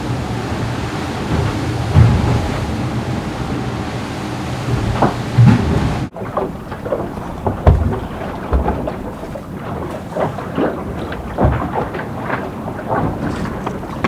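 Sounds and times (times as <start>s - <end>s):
water rushing around yacht: 0.0s - 14.0s.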